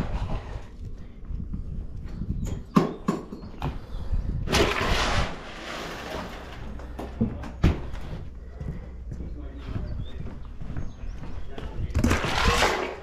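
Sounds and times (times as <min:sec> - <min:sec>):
low rumble: 0:00.0 - 0:02.8, 0:03.7 - 0:13.0.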